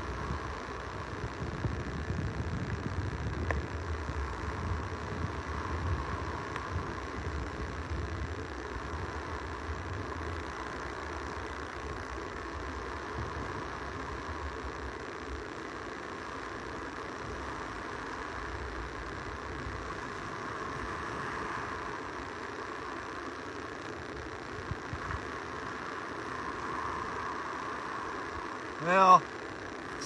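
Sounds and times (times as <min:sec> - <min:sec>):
waves breaking on beach: 0:00.0 - 0:30.0
wind rumbling on microphone: 0:00.0 - 0:30.0.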